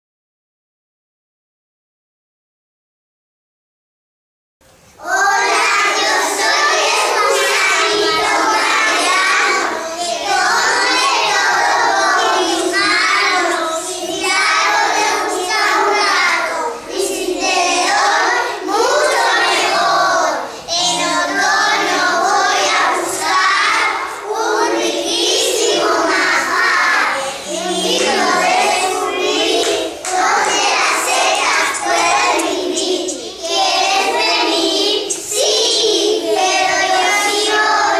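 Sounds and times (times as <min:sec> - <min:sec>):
young children singing: 0:04.8 - 0:37.9.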